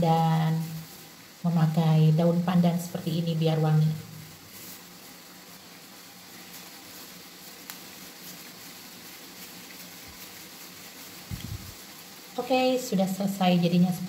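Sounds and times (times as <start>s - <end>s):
room noise hiss: 0.0s - 14.0s.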